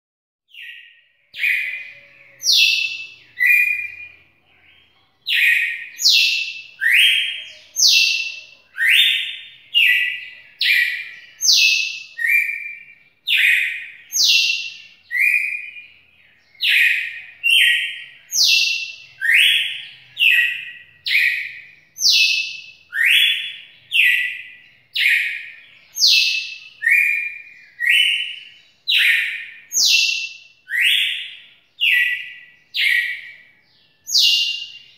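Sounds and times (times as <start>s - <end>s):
bird whistling song: 0.5s - 34.9s.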